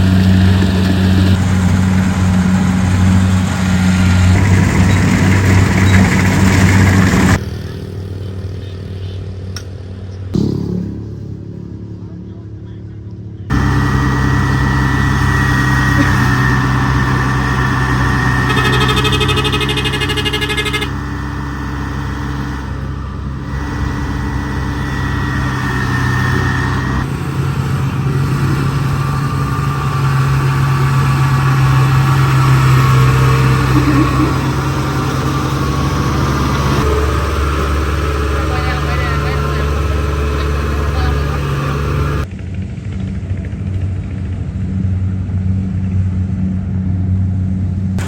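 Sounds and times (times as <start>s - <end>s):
diesel engine running under load: 0.0s - 48.0s.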